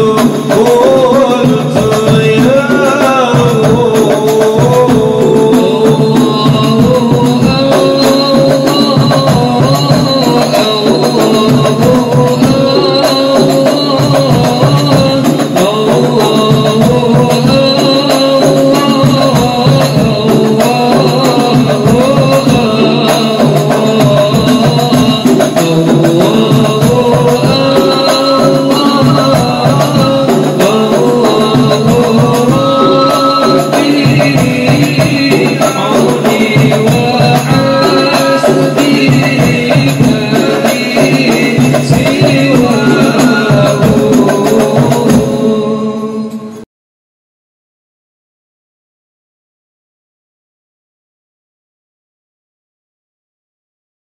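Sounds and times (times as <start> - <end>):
frame drums beating: 0.0 - 45.6
man singing melismatically: 0.0 - 46.7.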